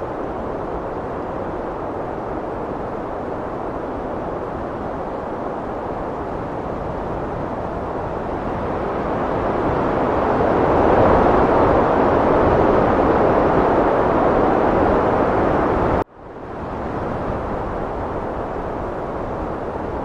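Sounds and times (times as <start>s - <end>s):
heavy wind blowing: 0.0s - 20.0s.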